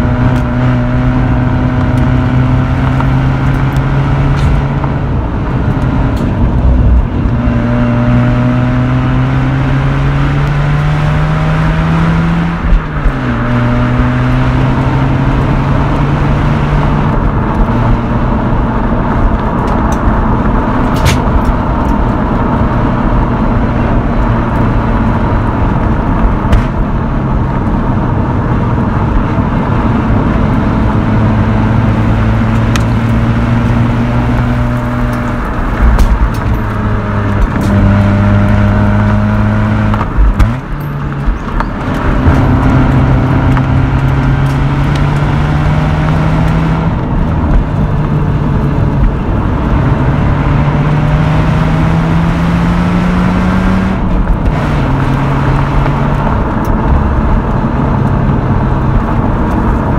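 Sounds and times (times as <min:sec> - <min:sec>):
rotary engine and exhaust revving: 0:00.0 - 0:59.9.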